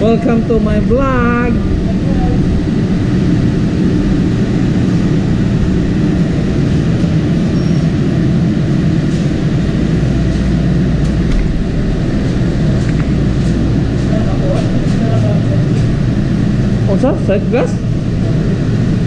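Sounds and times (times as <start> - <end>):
engine room machinery rumble: 0.0 - 19.0.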